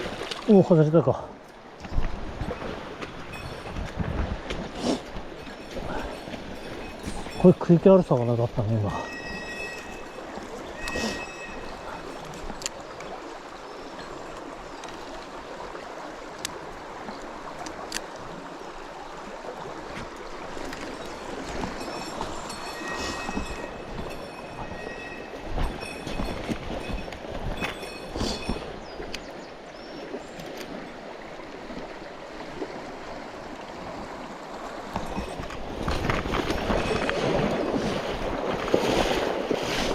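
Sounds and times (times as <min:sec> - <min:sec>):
mountain stream running: 0:00.0 - 0:39.9.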